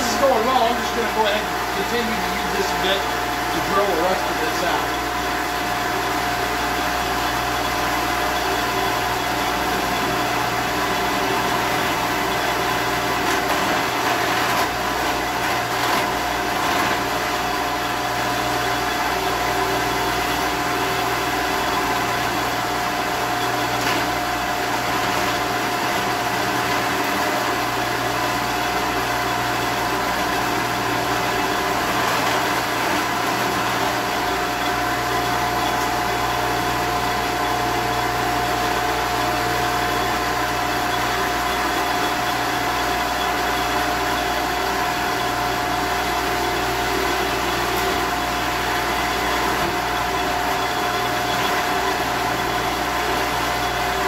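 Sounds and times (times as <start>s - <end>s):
drill press motor humming: 0.0s - 54.0s.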